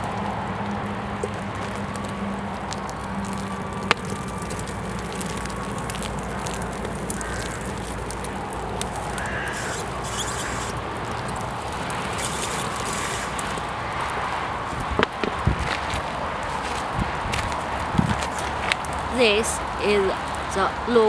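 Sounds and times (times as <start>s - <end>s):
fire rushing hiss: 0.0s - 20.6s
fire crackling: 0.0s - 21.0s.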